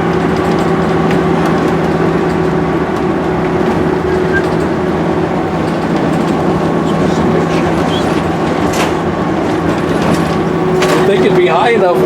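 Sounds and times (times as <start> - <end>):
constant low engine hum: 0.0 - 12.0.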